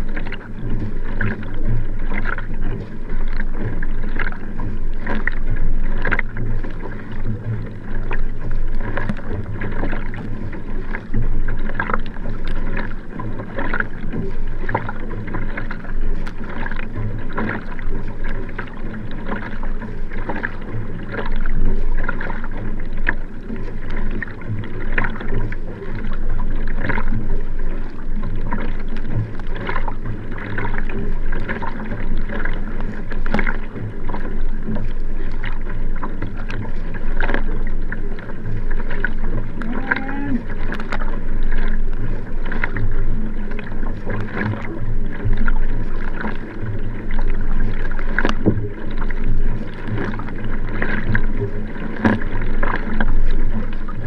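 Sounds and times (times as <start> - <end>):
paddle blades splashing: 0.0 - 54.0
steady low rumble: 0.0 - 54.0
water rushing along hull: 0.0 - 54.0.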